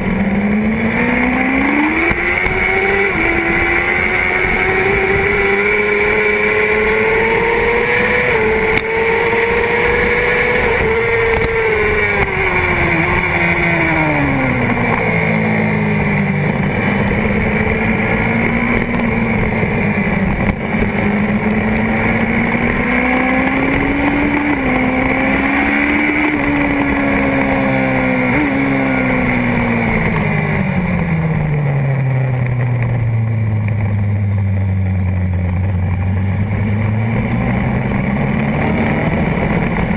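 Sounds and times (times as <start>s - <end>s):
motorcycle engine at race pace: 0.0s - 39.9s.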